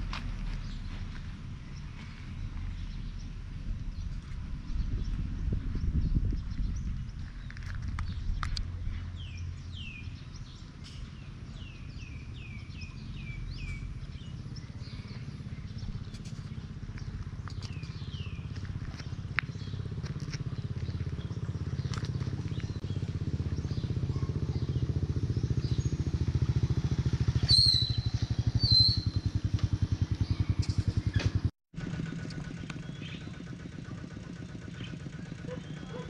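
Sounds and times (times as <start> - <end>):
small engine idling: 0.0 - 36.0.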